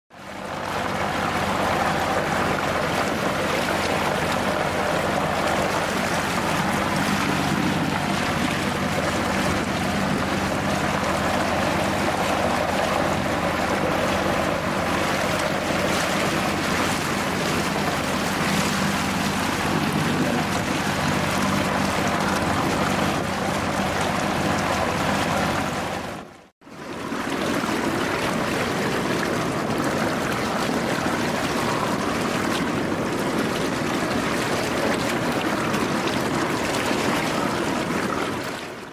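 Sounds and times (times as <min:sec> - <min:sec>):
boat engine hum: 0:00.1 - 0:38.9
water rushing past a boat: 0:00.1 - 0:38.9.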